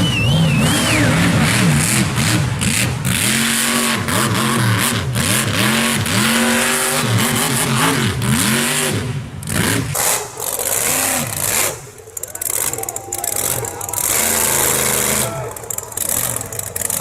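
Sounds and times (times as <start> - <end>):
off-road engine revving: 0.0 - 17.0.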